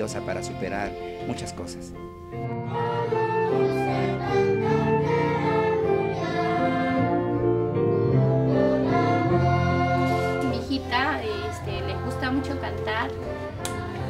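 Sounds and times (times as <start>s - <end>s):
cello: 2.4s - 14.0s.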